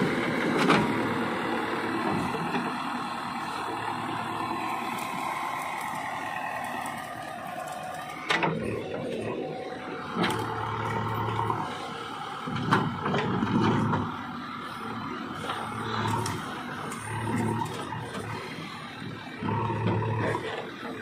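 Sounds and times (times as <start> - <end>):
diesel engine working hydraulics: 0.0 - 21.0.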